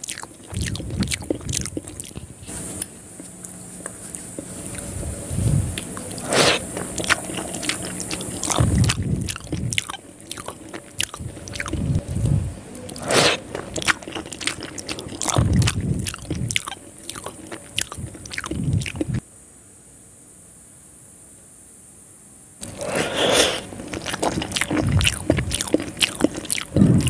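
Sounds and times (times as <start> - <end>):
mouth clicks: 0.0 - 4.9, 5.6 - 19.2, 22.6 - 27.0
person chewing noodles: 0.0 - 19.2, 22.6 - 27.0.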